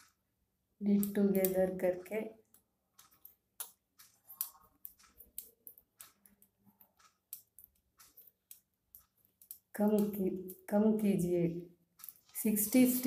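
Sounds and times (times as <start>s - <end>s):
knitting needles clicking: 0.8s - 13.0s.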